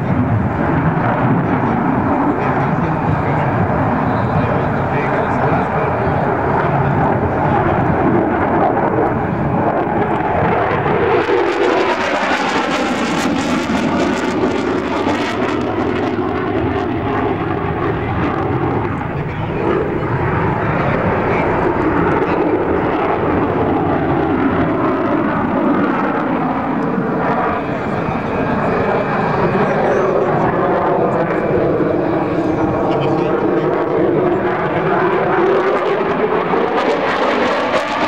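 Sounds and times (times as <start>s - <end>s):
jet engine roaring overhead: 0.0s - 38.0s.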